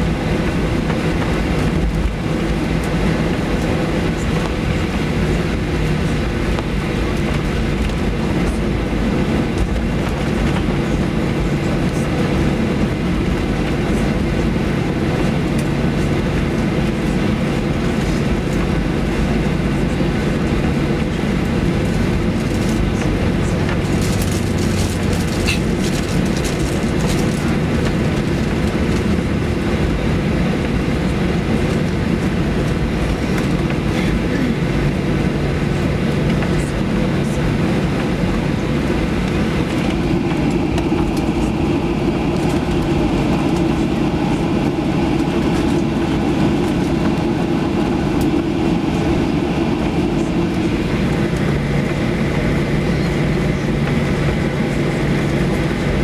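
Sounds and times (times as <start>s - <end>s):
engines and wheels rumbling: 0.0s - 56.0s.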